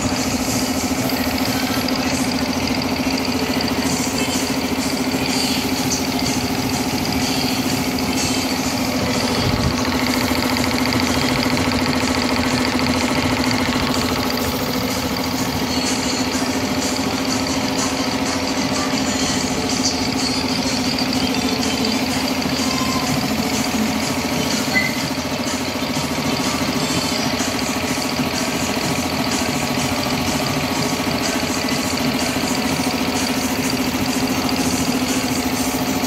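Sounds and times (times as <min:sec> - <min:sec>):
air compressor running: 0:00.0 - 0:36.0.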